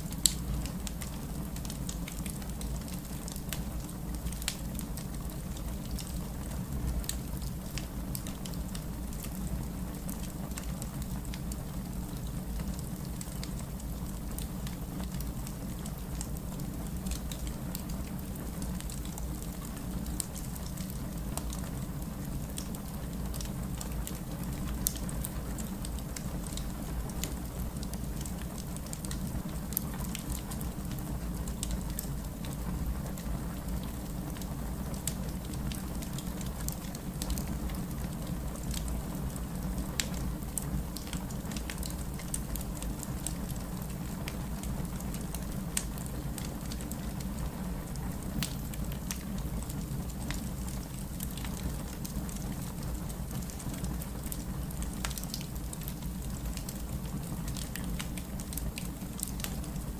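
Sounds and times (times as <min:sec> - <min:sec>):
fire flames rumbling: 0:00.0 - 0:59.9
fire pops and crackles: 0:00.0 - 0:59.9.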